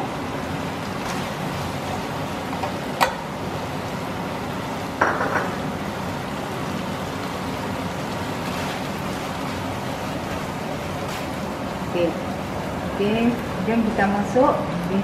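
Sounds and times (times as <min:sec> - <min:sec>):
stir-fry sizzling: 0:00.0 - 0:15.0.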